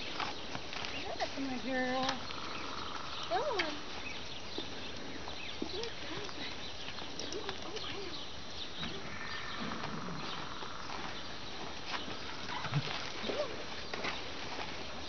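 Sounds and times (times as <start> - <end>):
horse hooves on gravel: 0.0 - 15.0.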